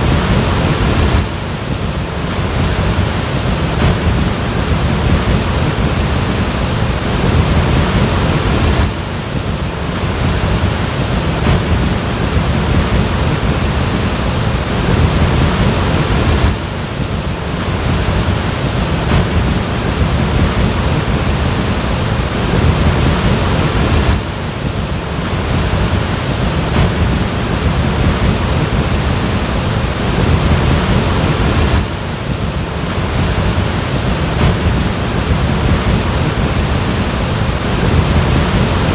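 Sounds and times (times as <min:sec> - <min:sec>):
floodwater rushing: 0:00.0 - 0:38.9
wind buffeting microphone: 0:00.0 - 0:38.9.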